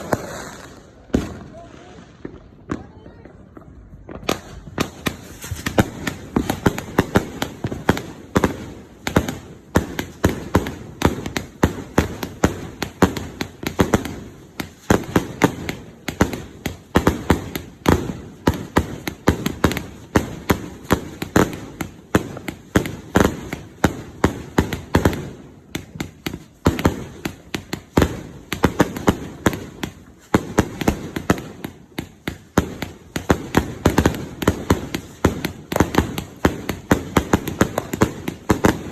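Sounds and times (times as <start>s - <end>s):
fireworks bangs and pops: 0.0s - 38.9s.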